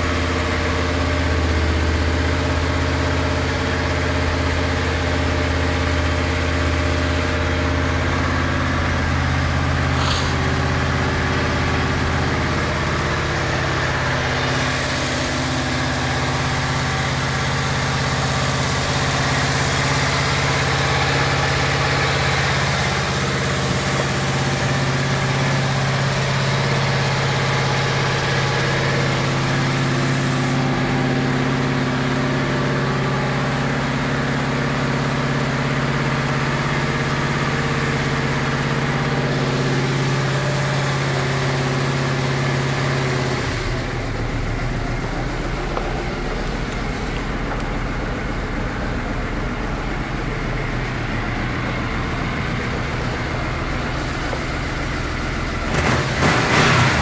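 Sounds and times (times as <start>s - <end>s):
motorcycle engine idling: 0.0s - 56.2s.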